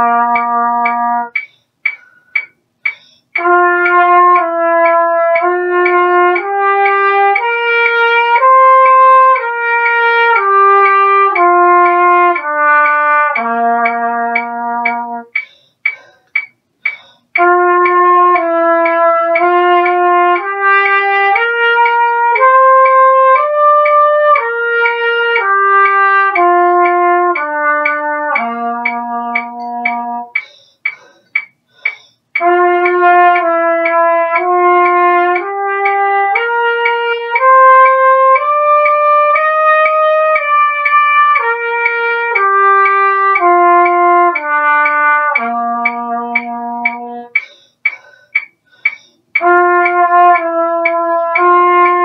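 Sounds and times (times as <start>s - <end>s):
trumpet playing slurred notes: 0.0s - 1.5s, 2.9s - 15.5s, 17.3s - 30.6s, 32.4s - 47.6s, 49.4s - 52.0s.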